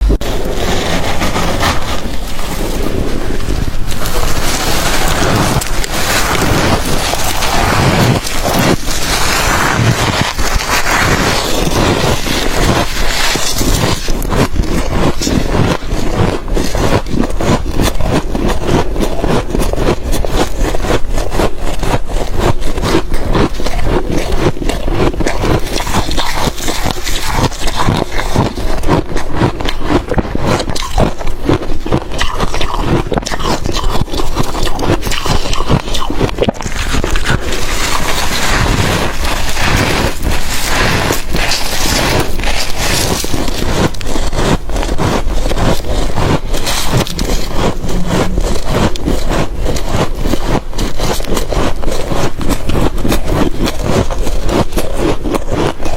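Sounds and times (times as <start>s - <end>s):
frost being crunched and chewed: 0.0s - 55.9s.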